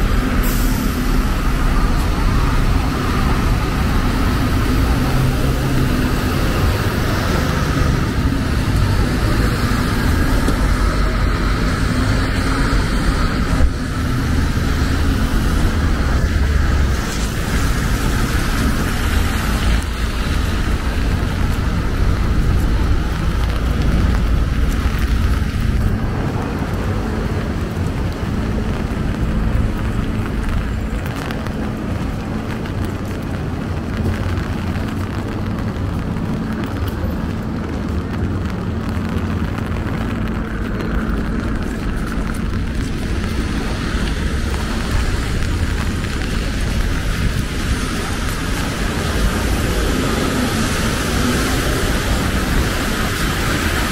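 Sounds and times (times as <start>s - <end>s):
traffic on wet street: 0.0s - 53.9s.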